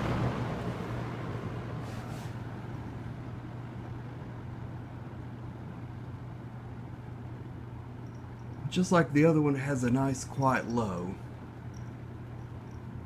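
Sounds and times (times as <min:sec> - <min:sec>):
fan air rush: 0:00.0 - 0:13.0
fan motor hum: 0:00.0 - 0:13.0.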